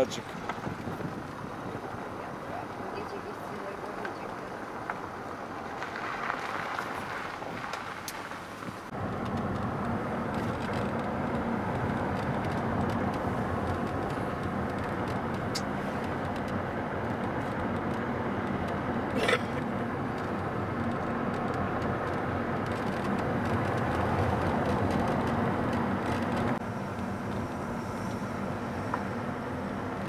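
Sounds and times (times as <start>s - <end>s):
car engine hum: 0.0s - 30.0s
tyre and road noise: 0.0s - 30.0s.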